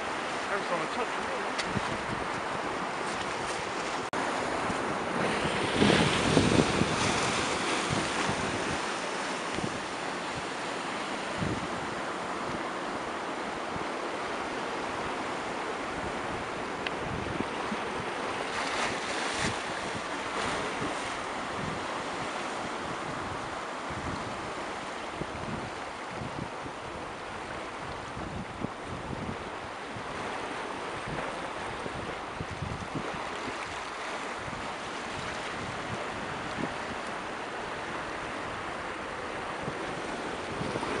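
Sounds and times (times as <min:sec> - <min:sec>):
waves breaking on rocks: 0:00.0 - 0:41.0
wind buffeting microphone: 0:00.0 - 0:41.0.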